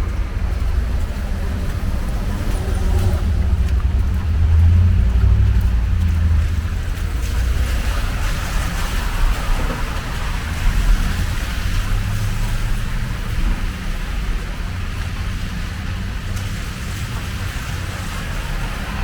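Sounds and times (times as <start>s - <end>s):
tyres hissing on wet road: 0.0s - 19.0s
vehicle low rumble: 0.0s - 19.0s.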